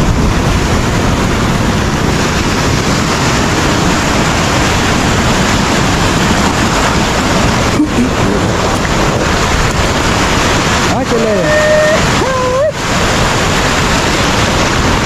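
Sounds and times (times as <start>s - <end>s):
ocean surf washing up: 0.0s - 15.0s
wind buffeting microphone: 0.0s - 15.0s.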